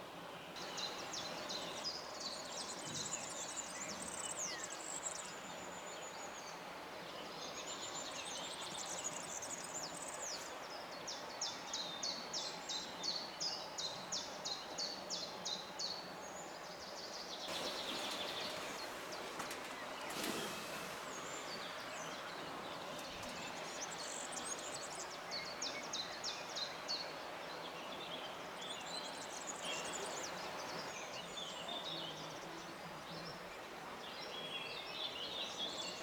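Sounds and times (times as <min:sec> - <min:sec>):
outdoor background hiss: 0:00.0 - 0:36.0
songbirds singing: 0:00.0 - 0:36.0.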